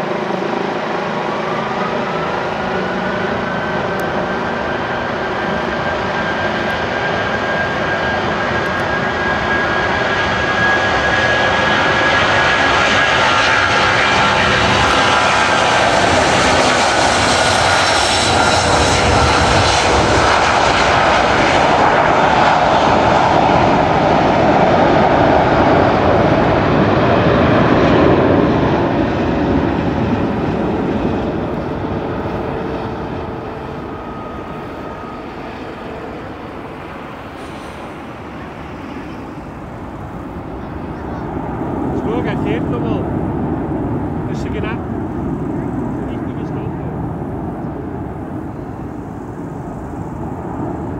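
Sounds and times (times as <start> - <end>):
jet engine roar with whine: 0.0 - 50.9.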